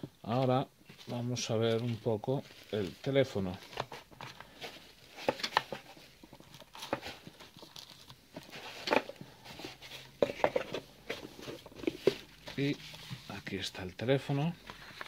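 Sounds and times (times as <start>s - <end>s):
cardboard box rustling: 0.9s - 13.4s.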